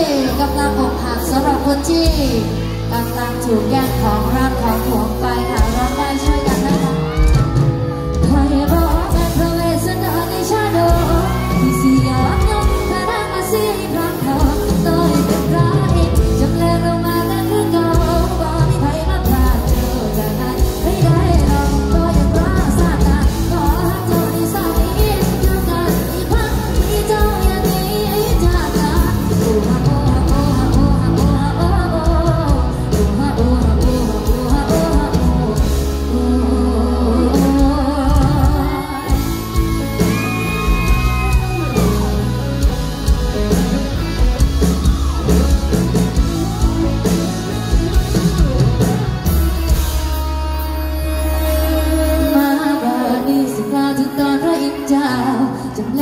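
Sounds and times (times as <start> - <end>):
heavy bass: 0.0 - 52.6
drums: 0.0 - 56.0
woman singing lead: 0.0 - 56.0.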